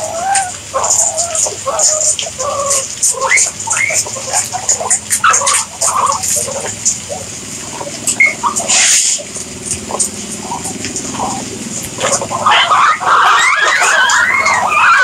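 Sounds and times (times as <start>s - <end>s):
clicking and rustling in grass: 0.0s - 12.4s
guinea pigs squeaking: 0.0s - 15.0s.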